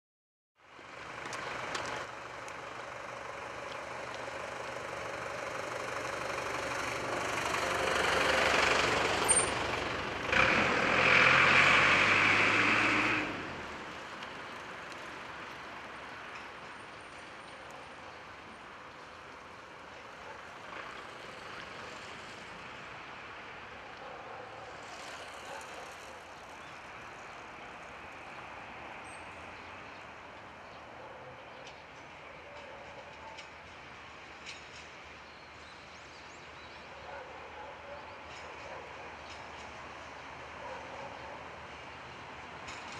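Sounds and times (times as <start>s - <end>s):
diesel locomotive engine hum: 0.6s - 24.8s, 25.5s - 42.9s.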